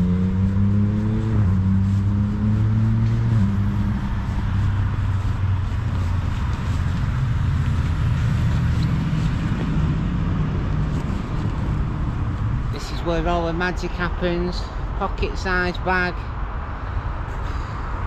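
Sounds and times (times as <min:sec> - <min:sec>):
road traffic engine noise: 0:00.0 - 0:18.0.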